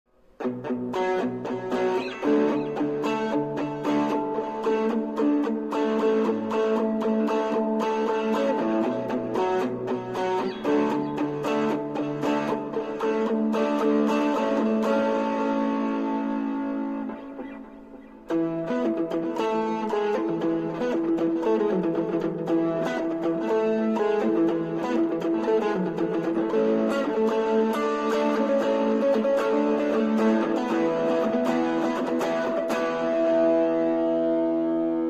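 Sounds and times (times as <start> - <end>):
electric guitar notes and chords: 0.1 - 35.0.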